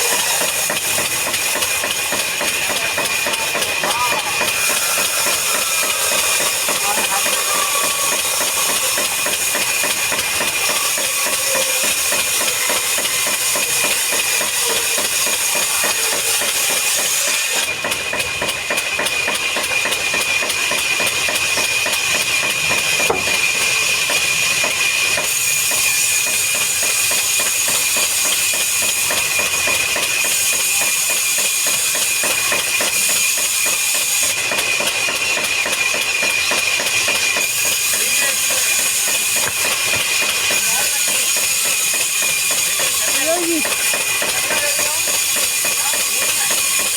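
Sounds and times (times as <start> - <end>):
woodworking machinery whine and clatter: 0.0 - 46.9.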